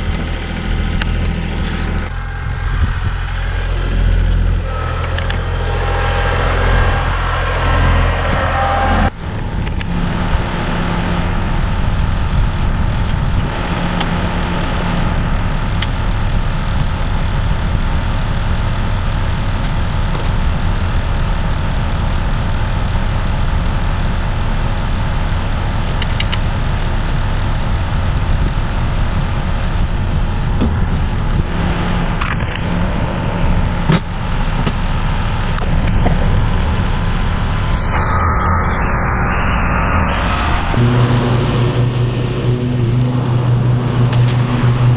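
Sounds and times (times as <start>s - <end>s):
tractor engine running: 0.0s - 38.0s, 40.7s - 44.9s.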